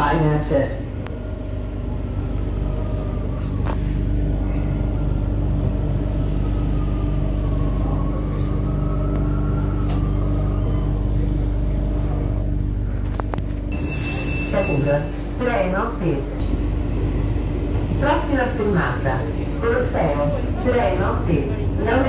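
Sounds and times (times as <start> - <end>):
metro train rumbling: 0.0 - 22.0.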